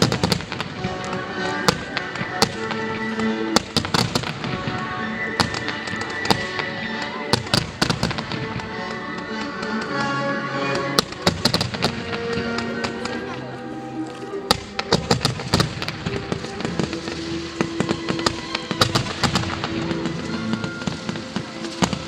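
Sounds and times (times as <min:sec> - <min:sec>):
fireworks bangs and pops: 0:00.0 - 0:10.1, 0:10.8 - 0:13.2, 0:14.5 - 0:22.0
loud music with sustained notes: 0:00.0 - 0:22.0.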